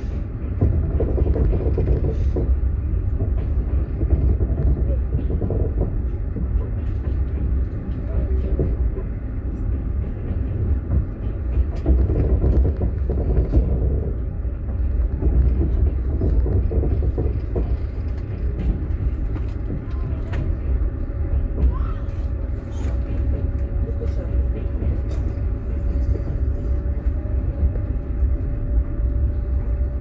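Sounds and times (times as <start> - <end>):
train carriage rumbling: 0.0 - 30.0.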